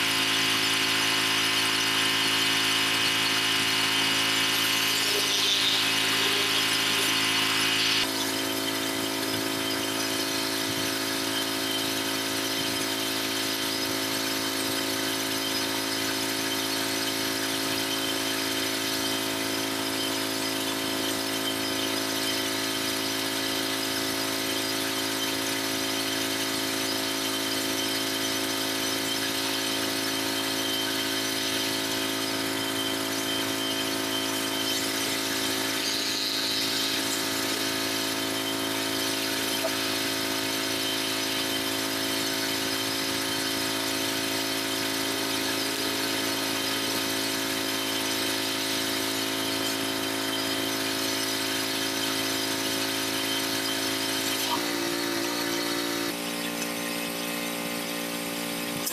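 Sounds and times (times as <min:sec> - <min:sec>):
pressure washer running: 0:00.0 - 0:58.9.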